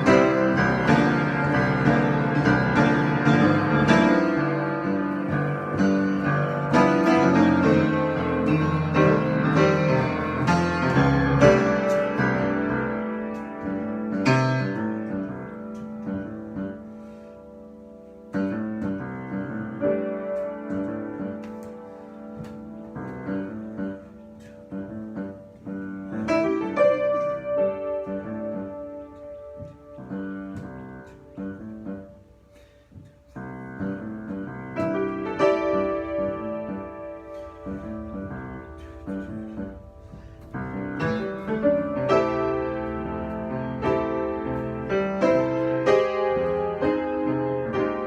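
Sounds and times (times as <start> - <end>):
solo piano improvisation: 0.0 - 48.0.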